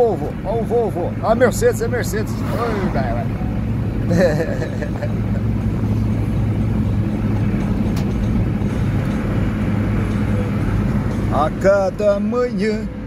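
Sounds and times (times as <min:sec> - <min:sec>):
car engine drone: 0:00.0 - 0:13.0
tyres rumbling on road: 0:00.0 - 0:13.0.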